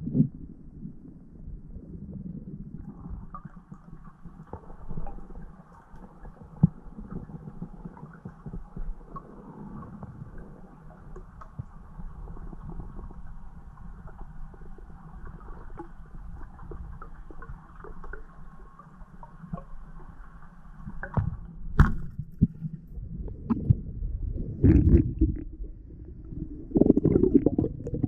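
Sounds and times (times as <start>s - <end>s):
muffled underwater rush: 0.0s - 28.0s.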